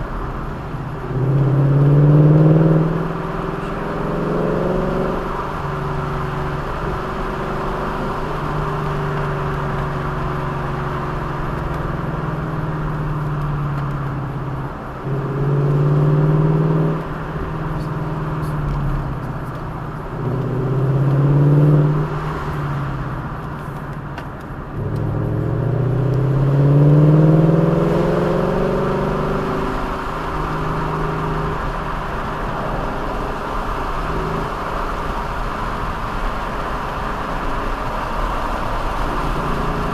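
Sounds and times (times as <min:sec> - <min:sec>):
road noise: 0:00.0 - 0:39.9
vehicle engine accelerating: 0:00.0 - 0:39.9.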